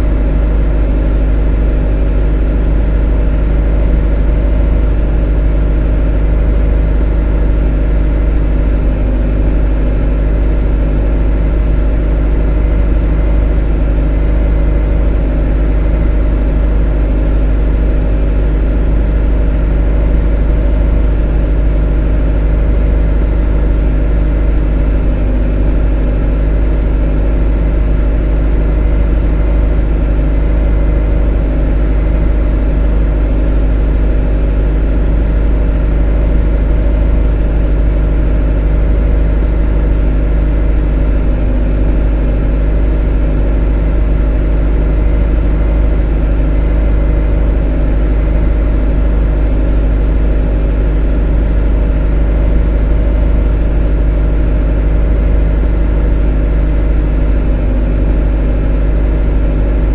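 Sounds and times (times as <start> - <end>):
motor humming steadily: 0.0 - 59.9.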